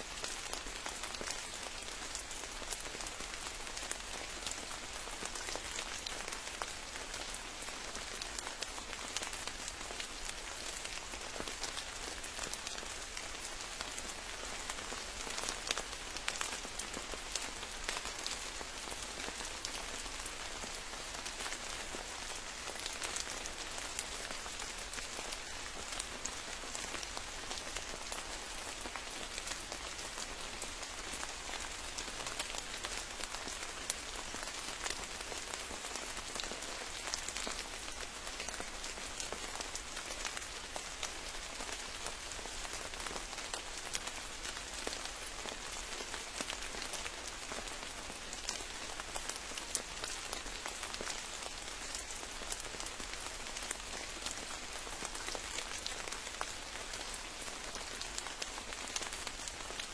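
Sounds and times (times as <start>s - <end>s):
rain with ticking drops: 0.0s - 59.9s.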